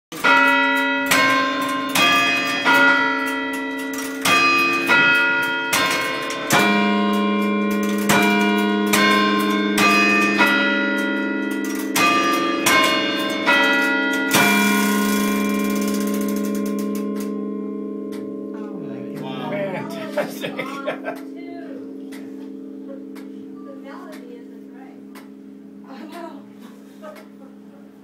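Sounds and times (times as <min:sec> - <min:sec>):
clock tower bells chiming: 0:00.1 - 0:28.0.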